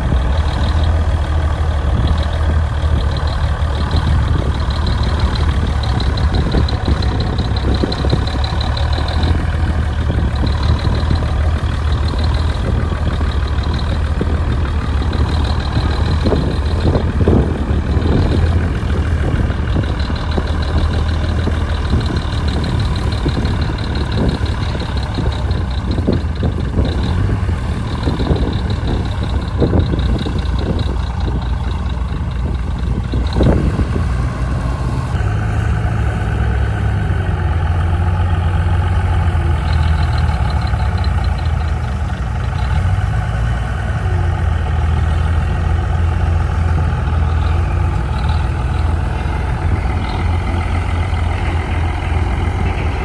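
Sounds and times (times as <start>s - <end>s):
bulldozer diesel engine running: 0.0s - 53.0s
loud low hum: 0.0s - 53.0s.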